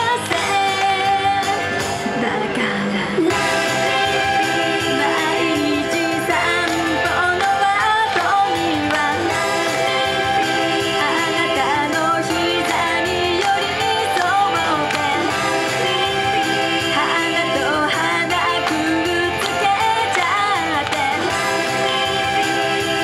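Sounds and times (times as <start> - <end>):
girls singing pop song: 0.0 - 23.0
pop backing music: 0.0 - 23.0.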